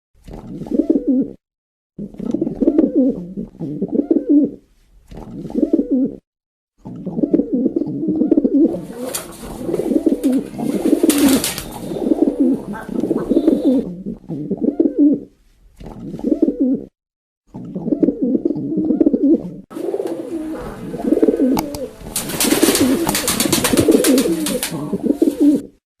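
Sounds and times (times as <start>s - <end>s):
pigeons cooing: 0.5s - 1.4s, 2.0s - 4.6s, 5.2s - 6.2s, 6.9s - 15.3s, 15.9s - 16.9s, 17.6s - 25.8s.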